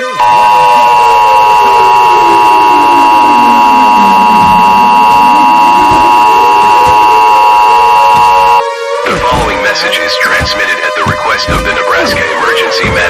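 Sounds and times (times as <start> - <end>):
harsh two-tone alarm: 0.0 - 13.0.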